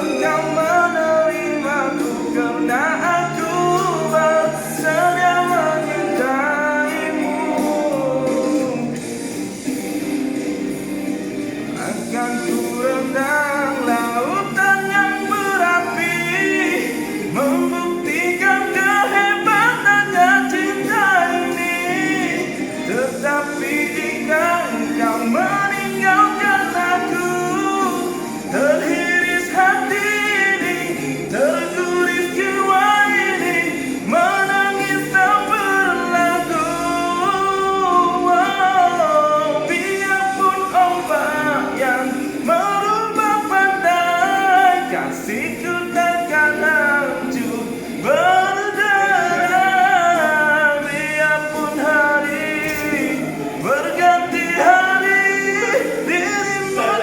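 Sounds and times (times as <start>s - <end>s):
musical accompaniment: 0.0s - 57.0s
person singing: 0.0s - 57.0s.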